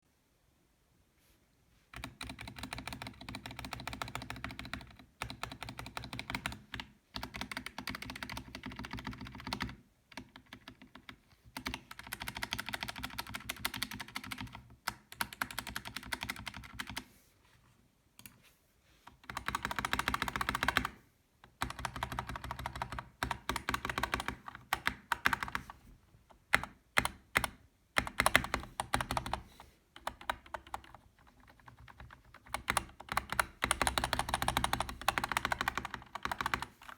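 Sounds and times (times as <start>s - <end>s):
mechanical keyboard typing: 2.0s - 17.0s, 19.2s - 25.8s, 26.4s - 36.9s.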